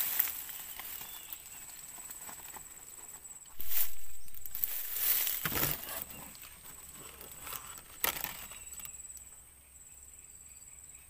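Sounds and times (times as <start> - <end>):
grass and leaves rustling: 0.0 - 9.4.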